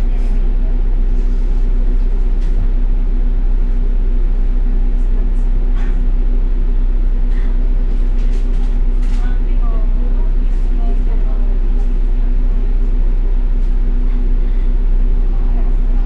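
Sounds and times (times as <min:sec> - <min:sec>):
bus engine idling: 0:00.0 - 0:16.0.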